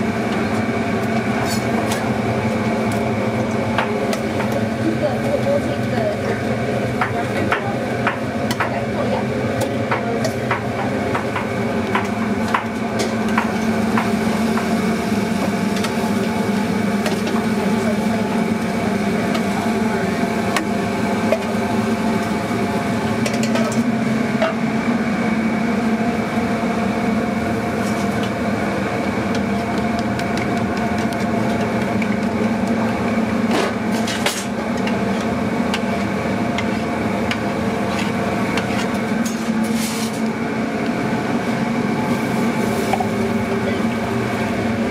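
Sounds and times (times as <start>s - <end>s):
machine hum: 0.0s - 44.9s.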